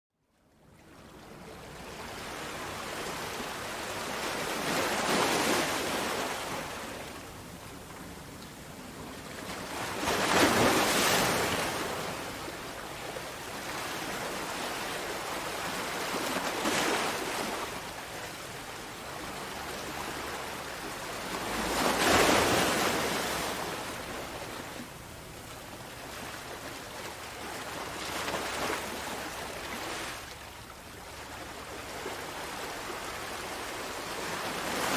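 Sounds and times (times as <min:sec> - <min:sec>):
sea waves breaking on shore: 0:00.8 - 0:34.9.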